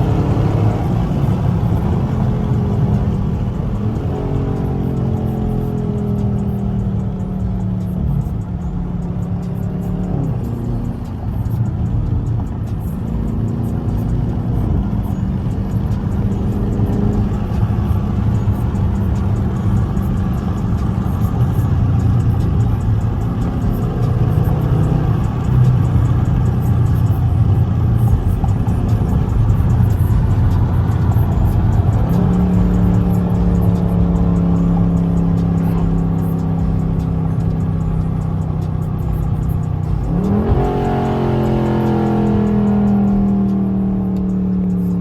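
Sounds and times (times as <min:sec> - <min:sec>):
car engine from inside cabin: 0:00.0 - 0:45.0.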